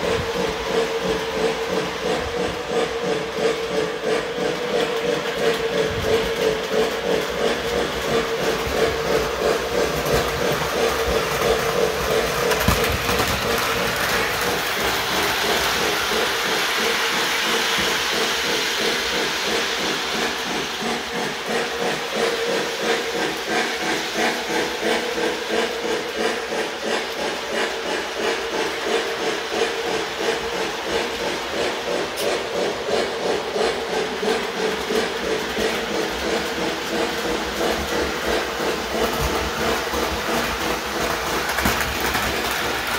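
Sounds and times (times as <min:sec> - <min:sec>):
model train hum: 0:00.0 - 0:42.9
rhythmic steam hiss: 0:00.0 - 0:42.9.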